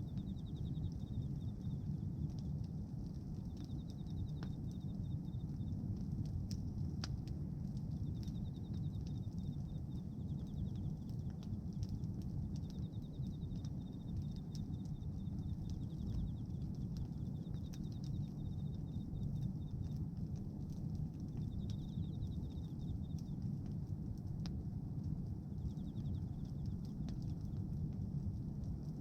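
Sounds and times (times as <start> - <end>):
bonfire flames rumbling: 0.0 - 29.0
fire crackling and popping: 0.0 - 29.0.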